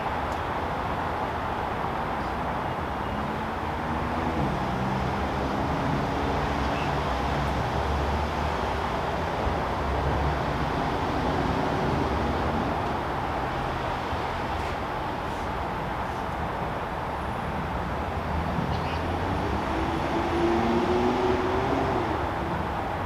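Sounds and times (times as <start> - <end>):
distant road traffic hum: 0.0 - 23.0.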